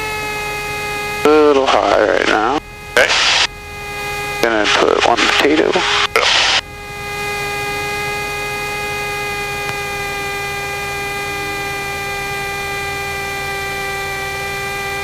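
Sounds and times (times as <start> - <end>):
aircraft engine and propeller drone: 0.0 - 15.0
high-pitched hum: 0.0 - 15.0.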